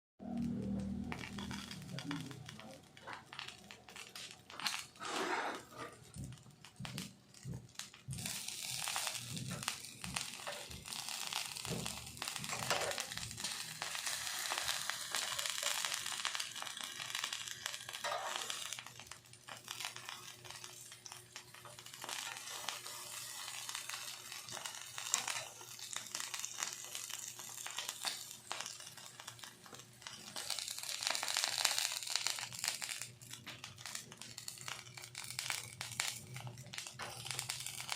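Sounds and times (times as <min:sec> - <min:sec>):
crinkling and crackling: 0:00.2 - 0:37.9.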